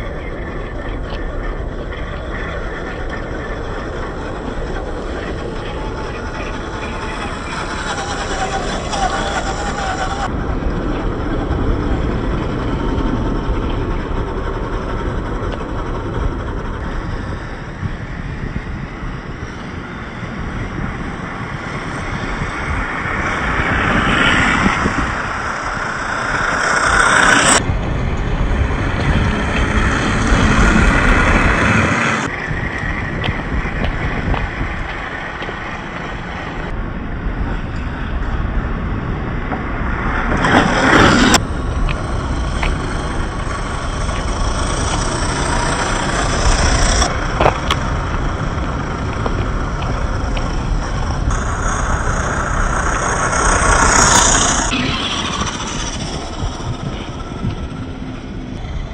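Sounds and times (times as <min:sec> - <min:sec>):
electric motors running under load: 0:00.0 - 0:36.8, 0:40.1 - 0:58.9
tyre and ground noise: 0:00.0 - 0:58.9.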